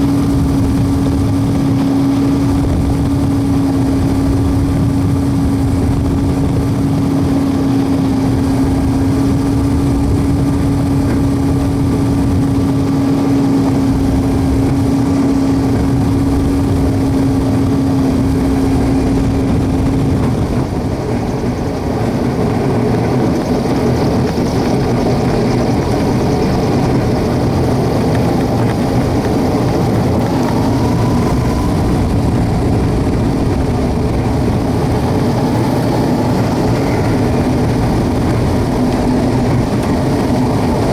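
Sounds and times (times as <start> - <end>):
propeller engine droning: 0.0 - 40.9.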